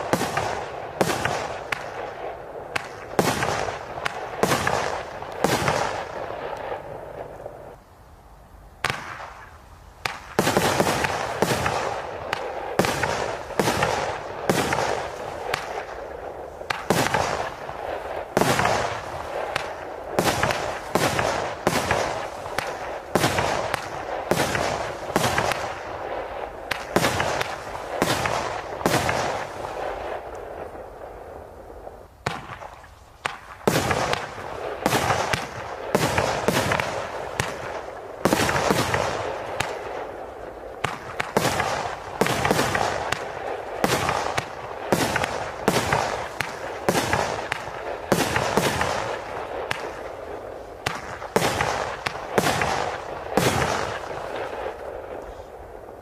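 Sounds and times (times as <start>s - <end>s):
fireworks launching and bursting: 0.0s - 7.8s, 8.8s - 56.0s.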